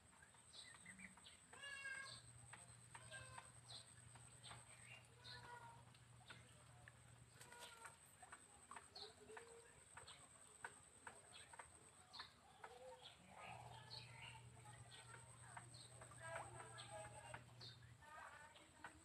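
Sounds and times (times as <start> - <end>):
distant bird calls: 0.0 - 19.0.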